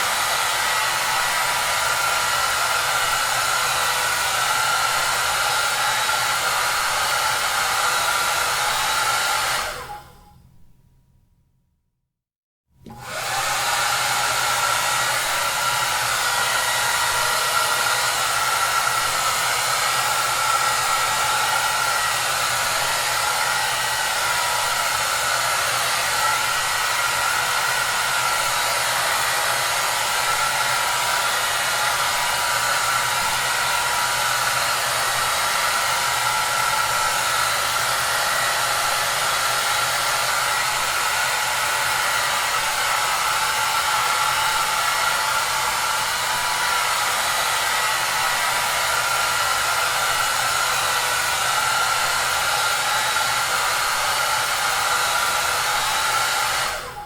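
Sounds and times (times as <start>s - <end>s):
hair dryer running: 0.0s - 10.3s, 12.8s - 57.0s.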